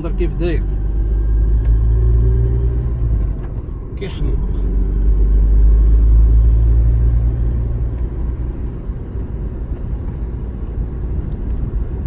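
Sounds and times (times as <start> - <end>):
car rumbling: 0.0 - 12.0.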